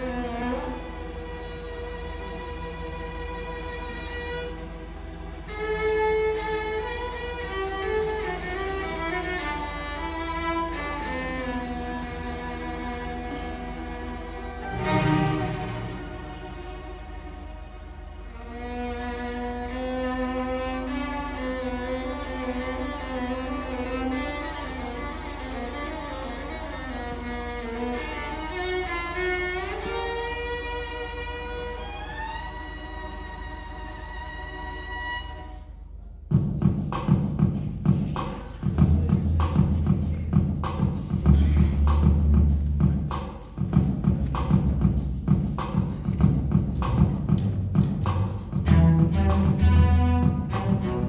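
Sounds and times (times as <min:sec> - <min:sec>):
string orchestra bowed melody: 0:00.0 - 0:51.0.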